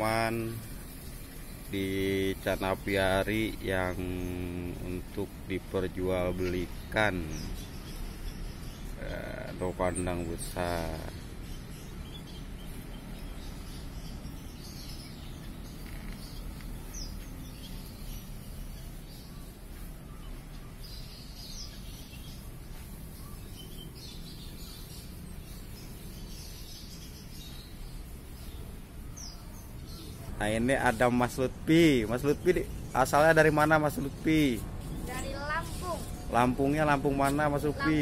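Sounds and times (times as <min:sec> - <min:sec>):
finches chirping: 0:00.0 - 0:38.0.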